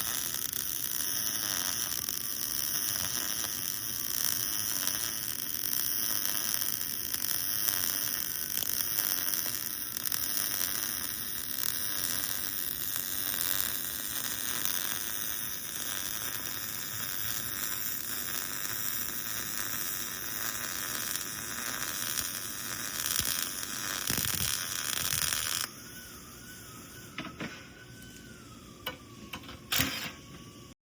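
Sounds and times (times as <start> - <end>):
welding arc sizzling and crackling: 0.0 - 27.3, 28.0 - 30.3.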